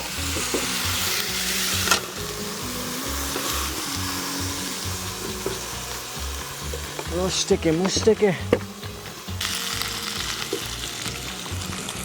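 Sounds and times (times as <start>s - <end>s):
chicken sizzling in a frying pan: 0.0s - 12.0s
soft background music: 0.0s - 12.0s.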